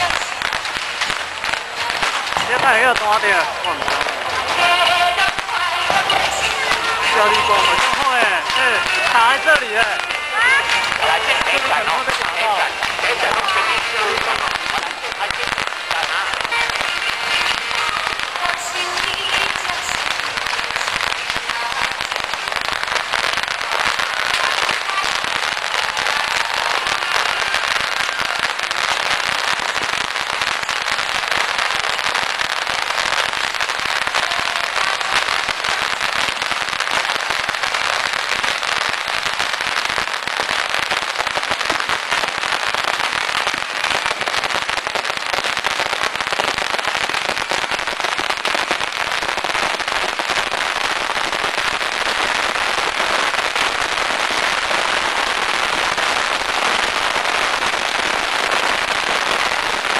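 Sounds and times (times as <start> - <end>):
bottle rockets crackling: 0.0 - 59.9.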